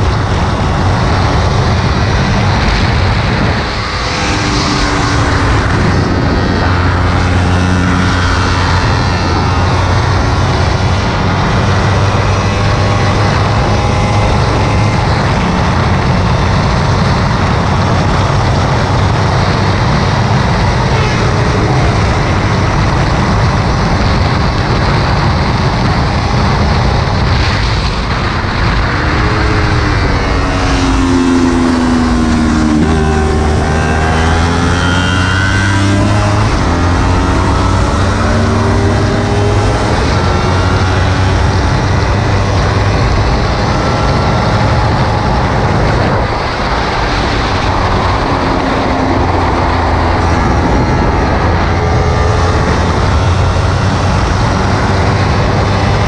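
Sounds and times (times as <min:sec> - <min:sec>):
motorcycle engine running hard: 0:00.0 - 0:56.0
wind rush: 0:00.0 - 0:56.0.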